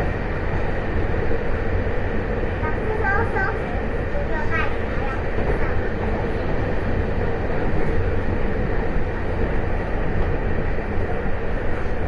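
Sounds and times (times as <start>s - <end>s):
constant hum: 0.0s - 12.0s
train wheels rumbling: 0.0s - 12.0s.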